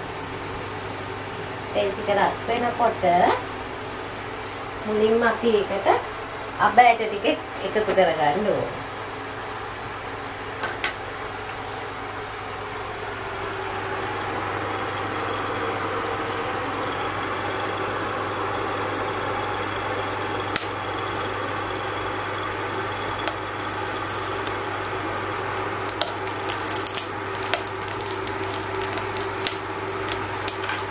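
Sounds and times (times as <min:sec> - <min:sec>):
cooktop electrical hum: 0:00.0 - 0:30.9
fan whir: 0:00.0 - 0:30.9.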